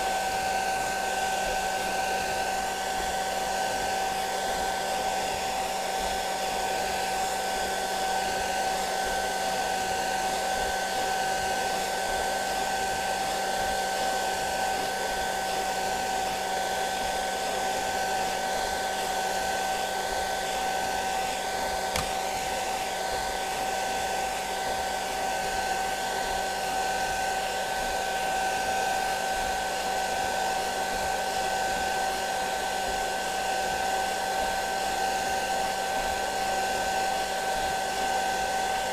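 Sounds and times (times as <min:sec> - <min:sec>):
hair dryer whining: 0:00.0 - 0:38.9.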